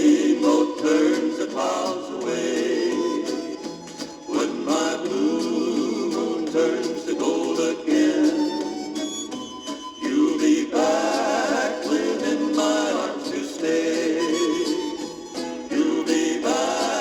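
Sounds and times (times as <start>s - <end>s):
men singing in harmony: 0.0s - 9.2s, 10.0s - 17.0s.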